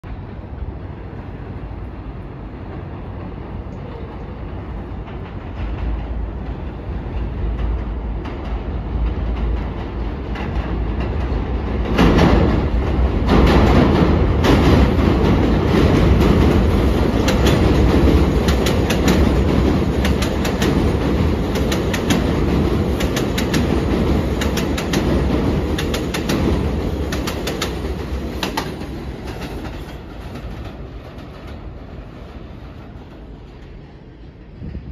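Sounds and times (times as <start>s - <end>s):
train rumbling on elevated track: 0.0s - 34.9s
wheels clicking over rail joints: 3.8s - 34.9s.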